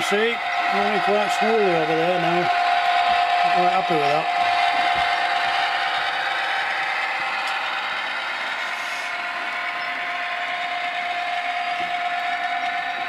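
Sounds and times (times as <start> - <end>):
model train motor whine: 0.0 - 13.0
wheels rattling on rails: 0.0 - 13.0.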